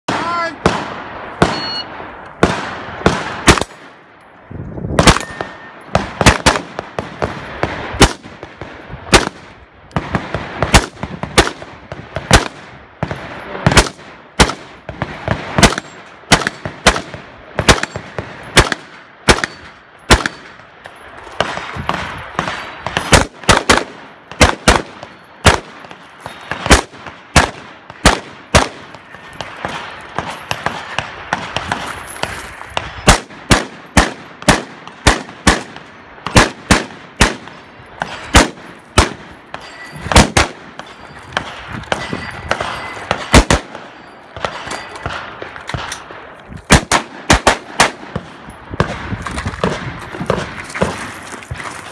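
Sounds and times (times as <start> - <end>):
loud gunshots with echo: 0.1 - 4.1, 5.0 - 20.8, 21.4 - 51.6.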